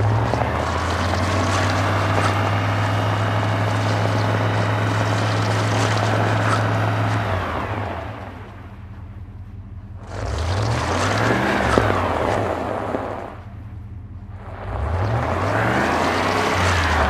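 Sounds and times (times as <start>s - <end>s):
car engine revving: 0.0s - 17.0s
tyres spinning and slipping: 0.0s - 17.0s.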